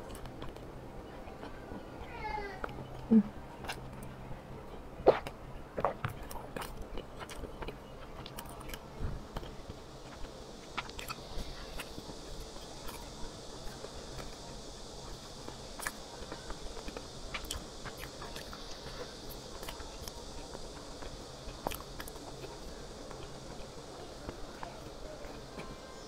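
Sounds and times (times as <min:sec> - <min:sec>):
steady hiss: 0:00.0 - 0:26.0
wet chewing clicks and smacks: 0:03.6 - 0:04.1, 0:05.0 - 0:25.7.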